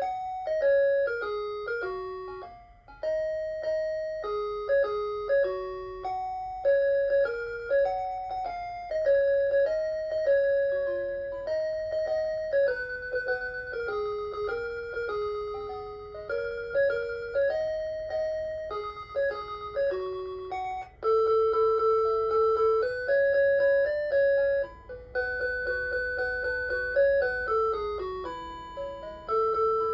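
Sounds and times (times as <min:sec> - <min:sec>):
alarm clock chime melody: 0:00.0 - 0:29.9.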